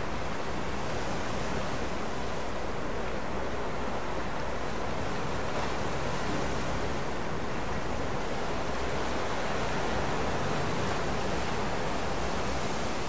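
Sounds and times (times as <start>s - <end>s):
choppy water: 0.0s - 13.0s.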